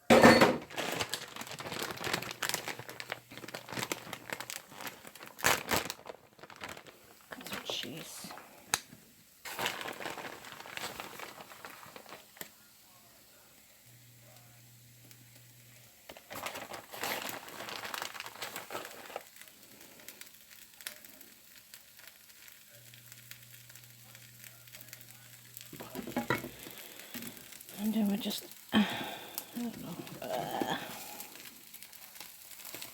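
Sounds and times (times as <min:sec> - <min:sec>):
omelette sizzling in a pan: 0:01.9 - 0:05.4, 0:06.9 - 0:32.9.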